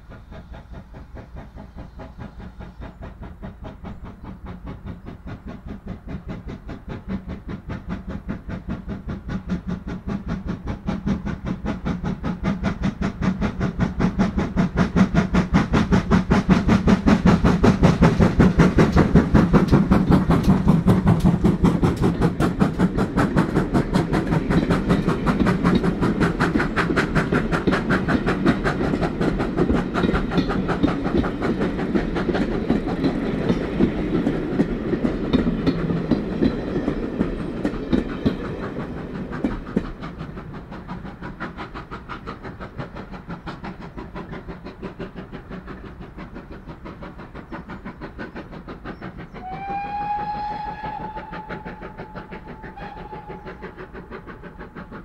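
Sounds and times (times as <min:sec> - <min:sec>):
clickety-clack of wheels on rails: 0:00.0 - 0:55.0
train rumble: 0:00.0 - 0:55.0.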